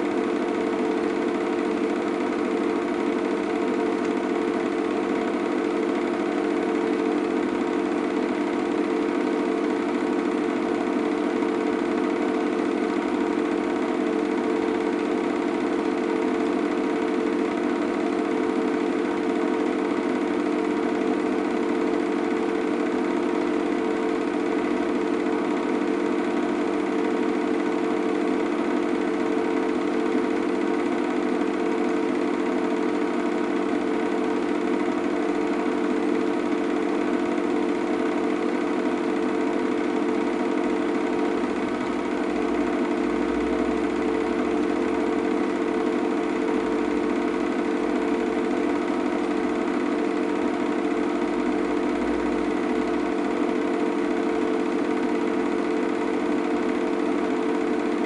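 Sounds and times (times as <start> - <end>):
film projector whirring: 0.0 - 58.0.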